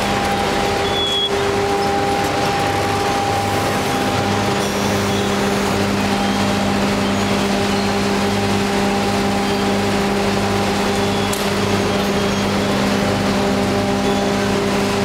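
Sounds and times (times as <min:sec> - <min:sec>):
crushing machine grinding: 0:00.0 - 0:15.0.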